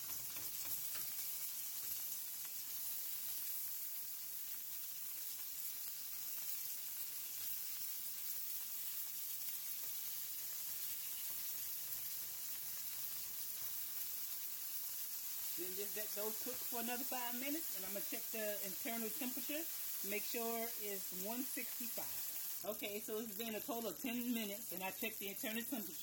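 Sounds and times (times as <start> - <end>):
fritters sizzling in a frying pan: 0.0 - 26.0.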